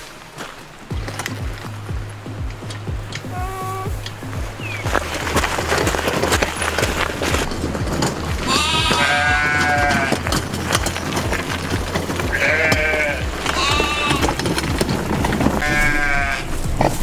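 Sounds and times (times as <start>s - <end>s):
background music with steady beat: 0.8s - 17.0s
farm animal bleating: 1.0s - 17.0s.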